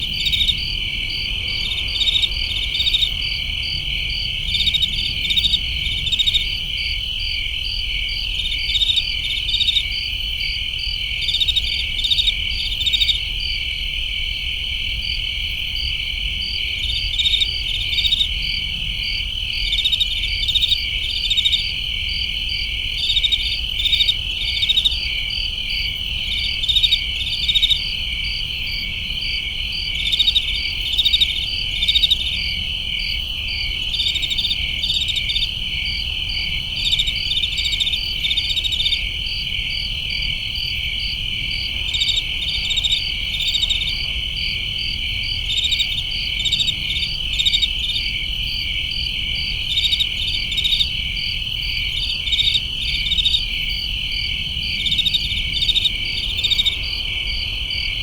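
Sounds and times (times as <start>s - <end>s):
crickets trilling: 0.0s - 58.0s
rhythmic cricket chirps: 0.0s - 58.0s.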